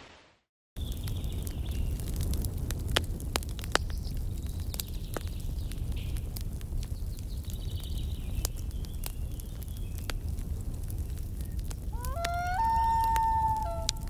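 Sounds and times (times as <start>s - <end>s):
campfire crackling and popping: 0.8s - 14.0s
low wind rumble: 0.8s - 14.0s.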